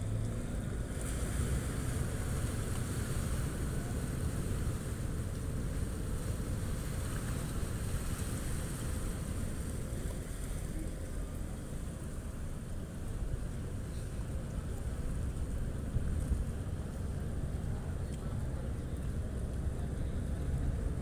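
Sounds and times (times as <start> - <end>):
ferry engines rumbling: 0.0 - 21.0
propeller churning water: 0.0 - 21.0.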